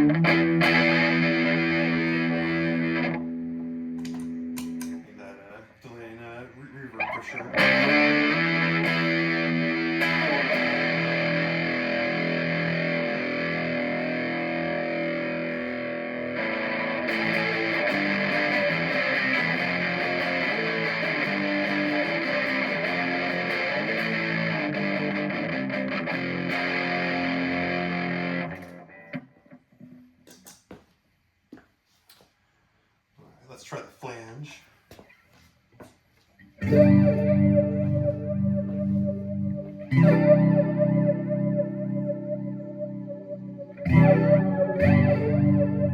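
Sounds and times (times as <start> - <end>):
distorted electric guitar: 0.0 - 5.2, 7.0 - 29.9, 36.6 - 45.9.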